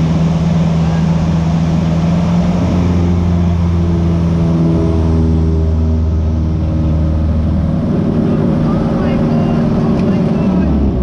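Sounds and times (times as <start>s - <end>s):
light aircraft engine drone: 0.0s - 11.0s.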